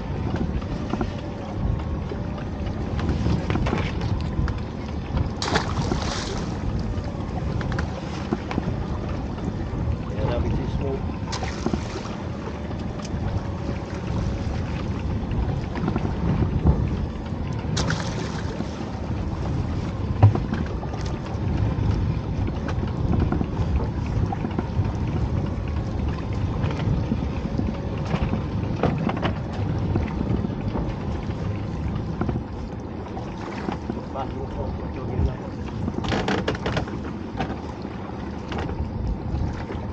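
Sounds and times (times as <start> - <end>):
faint engine hum: 0.0 - 39.9
water along hull: 0.0 - 39.9
wind on microphone: 0.0 - 39.9.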